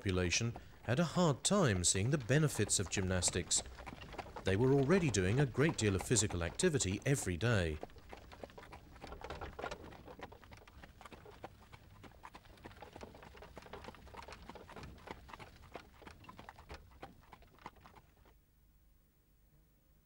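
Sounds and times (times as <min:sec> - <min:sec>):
faint horse hooves clip-clop: 0:00.0 - 0:18.4.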